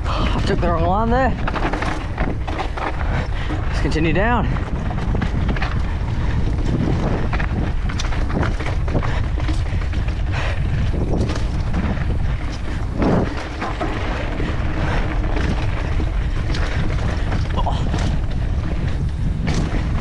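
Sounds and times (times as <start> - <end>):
bike knocking and rattling on rocks: 0.0 - 20.0
wind on microphone: 0.0 - 20.0.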